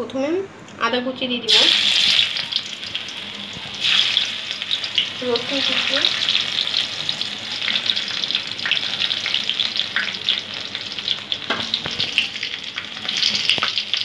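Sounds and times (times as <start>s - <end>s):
ginger and garlic sizzling in oil: 1.4s - 14.0s.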